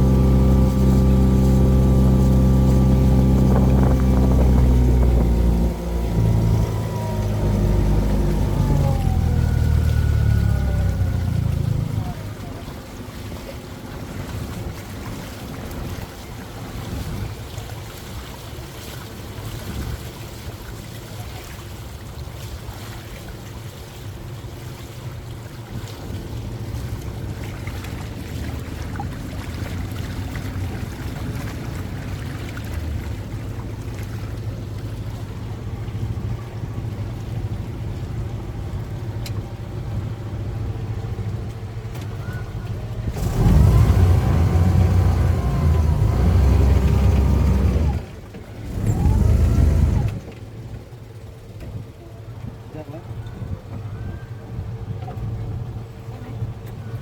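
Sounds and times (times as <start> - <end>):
boat motor rumbling: 0.0 - 57.0
wind: 0.0 - 57.0.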